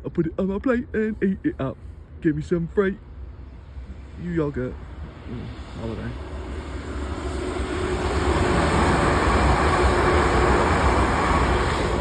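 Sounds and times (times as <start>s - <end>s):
faint steady whine: 0.0s - 12.0s
passenger train passing: 0.4s - 12.0s.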